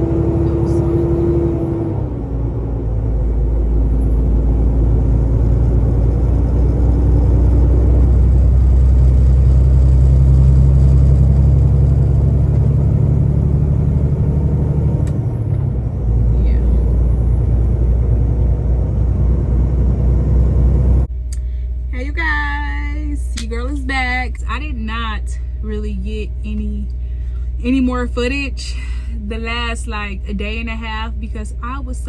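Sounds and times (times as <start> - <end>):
truck engine droning: 0.0 - 32.0.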